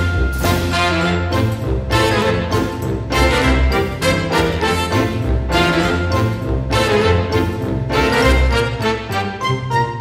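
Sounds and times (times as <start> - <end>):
carousel music: 0.0 - 10.0.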